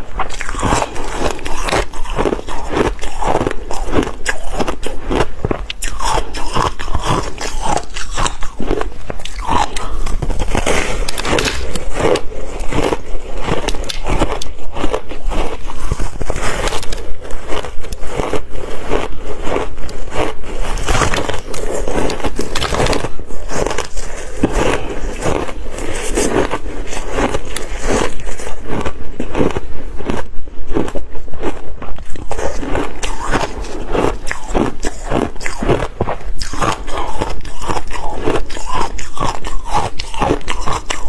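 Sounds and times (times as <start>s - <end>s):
ice being chewed: 0.0s - 41.0s.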